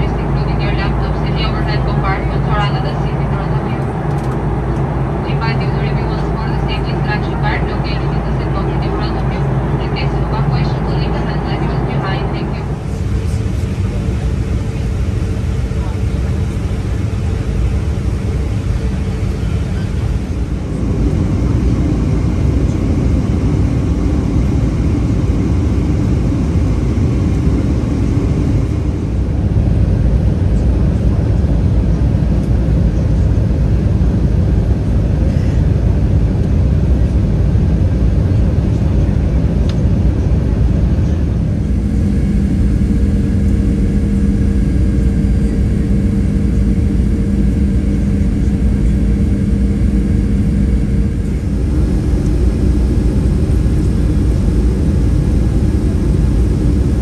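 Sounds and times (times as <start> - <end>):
two-pitched hum: 0.0 - 30.8, 40.6 - 57.0
aircraft cabin air rush: 0.0 - 57.0
jet engines droning: 0.0 - 57.0.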